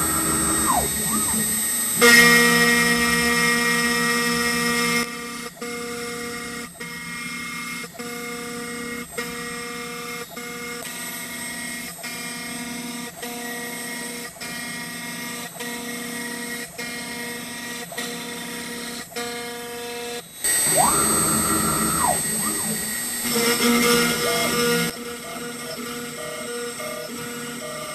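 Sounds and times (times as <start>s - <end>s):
router cutting whine: 0.0s - 27.9s.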